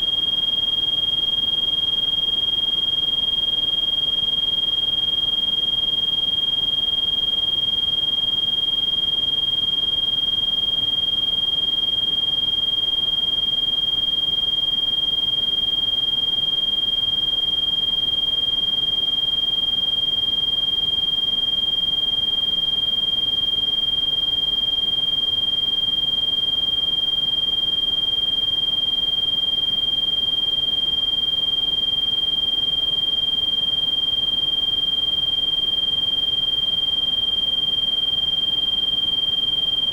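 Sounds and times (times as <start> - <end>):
high-pitched electronic sine tone: 0.0 - 39.9.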